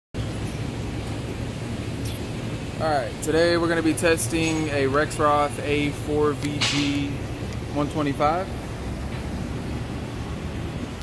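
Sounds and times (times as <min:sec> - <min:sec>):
low machinery hum: 0:00.2 - 0:11.0.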